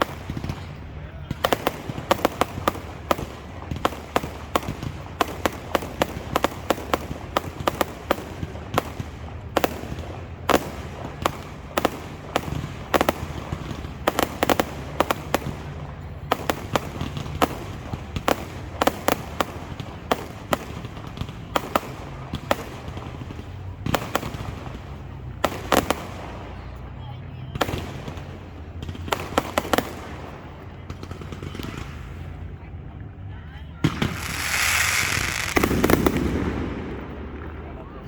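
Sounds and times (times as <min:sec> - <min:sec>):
fireworks banging and crackling: 0:00.0 - 0:38.0.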